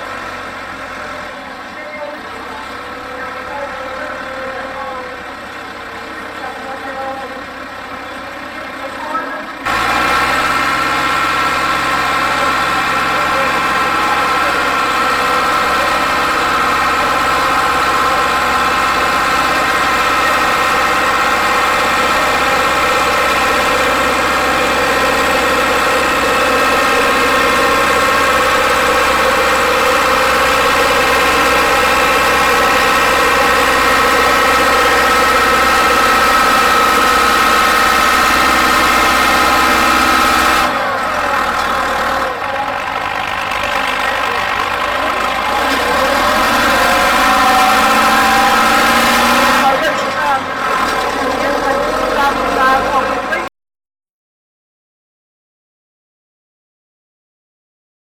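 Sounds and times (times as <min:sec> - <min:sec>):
tractor diesel engine running hard: 0:00.0 - 0:53.5.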